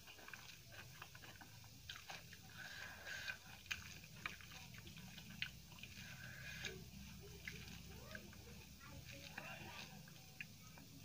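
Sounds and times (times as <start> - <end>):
hand mixing food on steel plate: 0.0 - 11.0.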